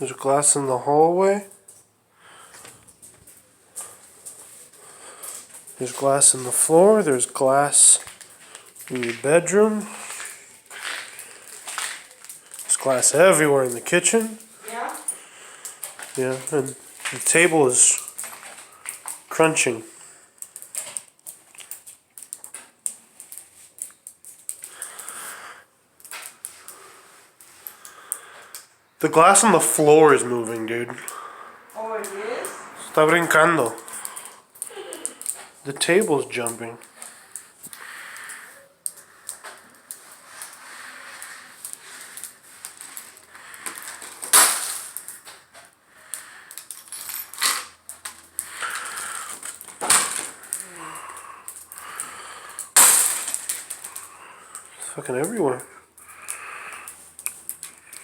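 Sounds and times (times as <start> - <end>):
glass fragments cracking and shifting: 1.6 - 26.8, 33.0 - 58.0.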